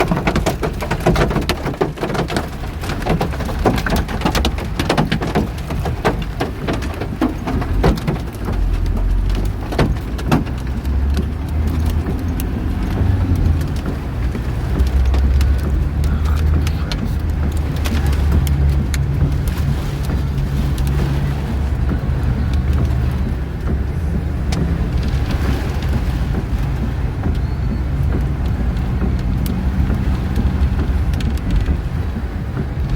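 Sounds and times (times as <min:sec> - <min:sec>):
car engine and road rumble: 0:00.0 - 0:32.9
light clicks and rattles: 0:00.0 - 0:32.9.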